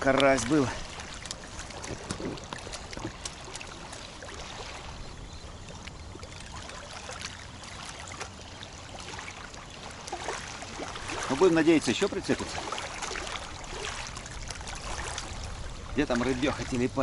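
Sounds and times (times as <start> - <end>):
small waves lapping: 0.0 - 17.0
wind rumbling on microphone: 0.0 - 17.0.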